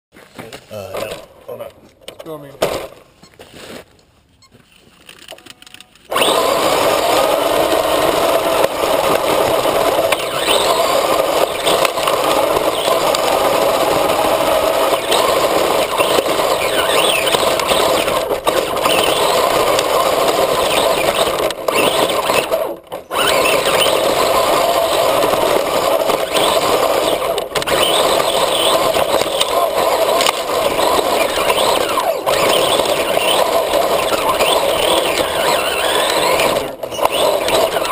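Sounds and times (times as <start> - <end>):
toy truck motor running: 6.0 - 37.9.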